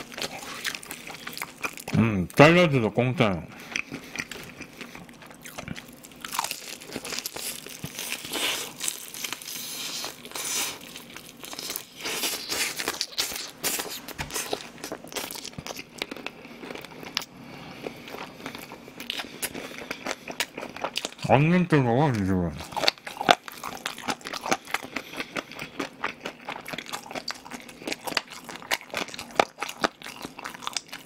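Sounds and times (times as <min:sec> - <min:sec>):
chewing: 0:00.0 - 0:02.0, 0:03.5 - 0:21.2, 0:22.6 - 0:31.0
crunching bites of fried chicken: 0:03.6 - 0:21.3, 0:22.6 - 0:31.0.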